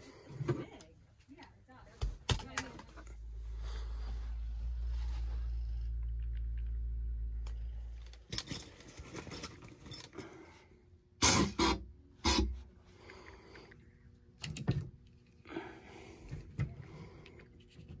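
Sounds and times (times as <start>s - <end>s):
low hum: 2.8s - 18.0s.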